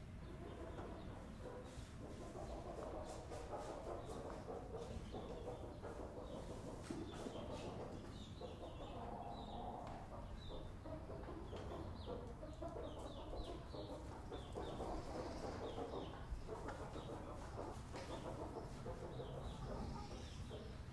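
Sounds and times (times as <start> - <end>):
chickens clucking and cheeping: 0.0 - 20.9.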